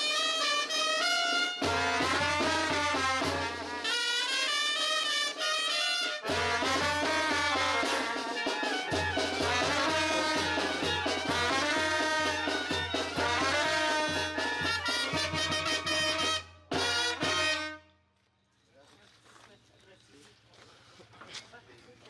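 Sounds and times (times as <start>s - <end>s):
brass band music: 0.0s - 18.0s.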